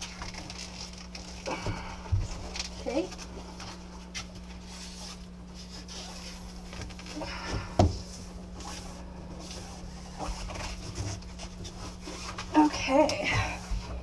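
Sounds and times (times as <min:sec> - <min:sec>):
steady low hum: 0:00.0 - 0:14.0
hands rubbing vinyl: 0:02.3 - 0:14.0.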